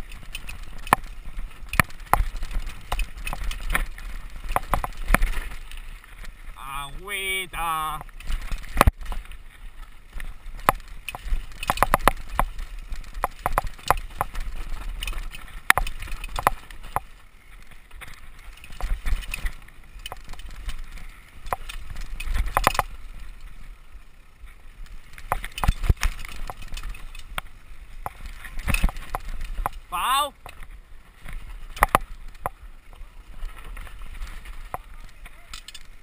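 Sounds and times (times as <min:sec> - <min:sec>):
mountain bike clattering: 0:00.0 - 0:36.0.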